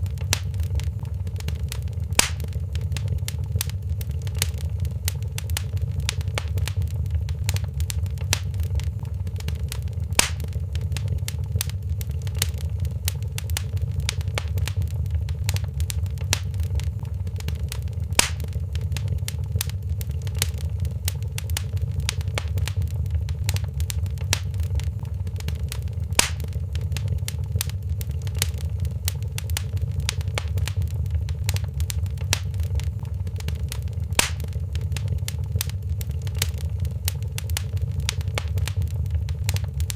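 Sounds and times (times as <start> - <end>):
loud fire pops: 0.0 - 39.9
low fire rumble: 0.0 - 39.9
wood fire crackling: 0.0 - 39.9.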